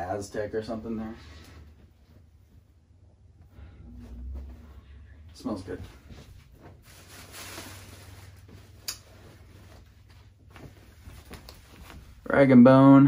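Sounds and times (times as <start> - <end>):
rustle of shirts: 0.0 - 12.6.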